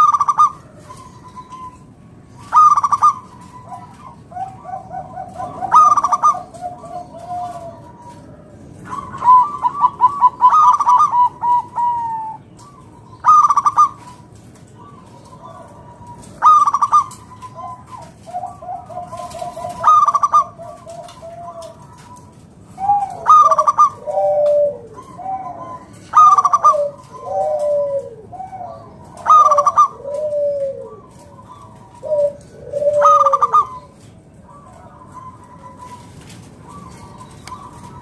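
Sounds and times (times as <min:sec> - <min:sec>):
dove cooing: 0:00.0 - 0:38.0.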